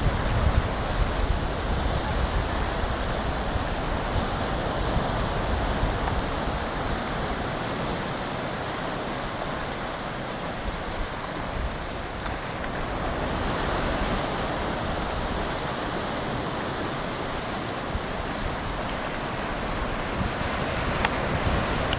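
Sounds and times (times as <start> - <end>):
ocean surf on rocky shore: 0.0 - 21.9
wind buffeting microphone: 0.0 - 21.9.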